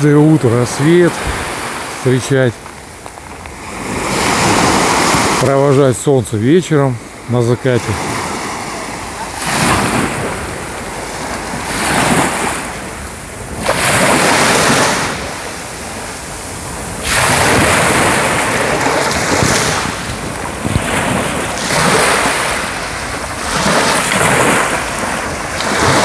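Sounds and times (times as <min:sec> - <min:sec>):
wind buffeting microphone: 0:00.0 - 0:05.5, 0:07.9 - 0:26.0
small waves breaking on sandy shore: 0:00.0 - 0:26.0.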